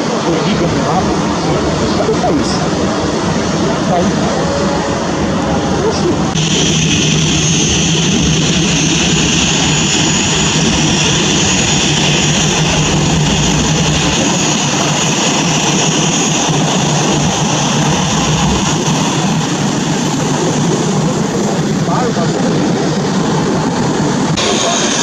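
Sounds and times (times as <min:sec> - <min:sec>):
jet engines running: 0:00.0 - 0:25.0
two-tone high whine: 0:00.3 - 0:21.4.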